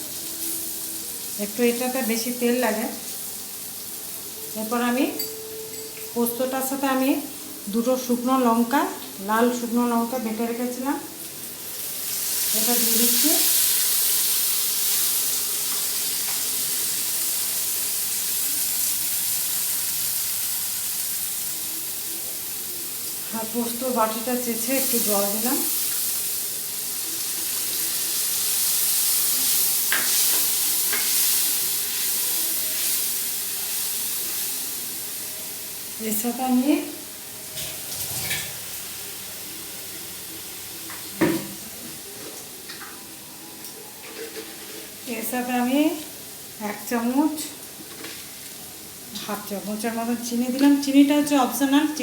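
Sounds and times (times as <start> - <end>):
oil sizzling in a pan: 0.0 - 52.0.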